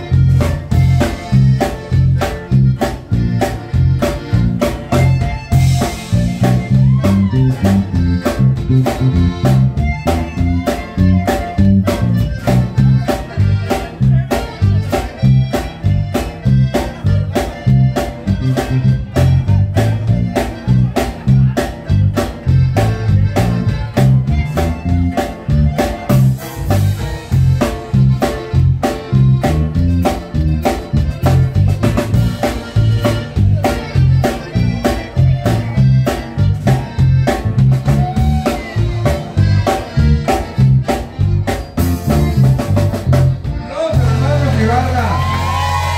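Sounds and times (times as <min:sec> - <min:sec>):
accordion melody: 0:00.0 - 0:45.9
bass line: 0:00.0 - 0:45.9
drum kit beat: 0:00.0 - 0:45.9
strummed guitar: 0:00.0 - 0:45.9.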